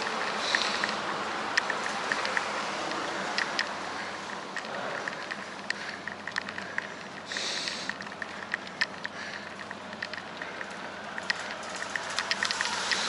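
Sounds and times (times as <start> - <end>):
bicycle ticks and clicks: 0.0 - 13.0
road noise: 0.0 - 13.0
wind: 0.0 - 13.0.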